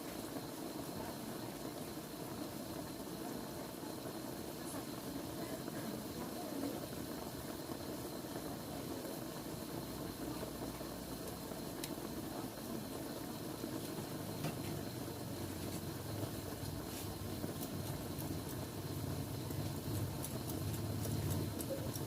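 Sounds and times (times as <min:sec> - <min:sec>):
food bubbling in a pan: 0:00.0 - 0:22.0.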